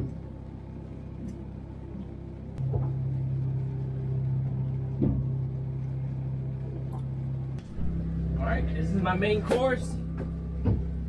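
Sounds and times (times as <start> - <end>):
low rumble in boat cabin: 0.0 - 11.0
steady low hum: 0.0 - 11.0.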